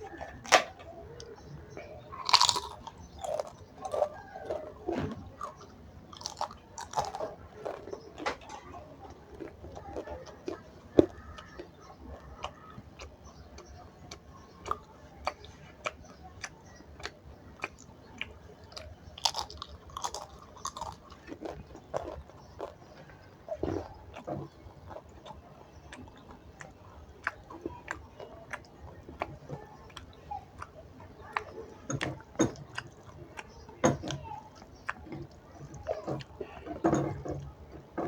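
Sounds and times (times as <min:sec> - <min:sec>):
chewing and crunching food: 0:00.0 - 0:38.0.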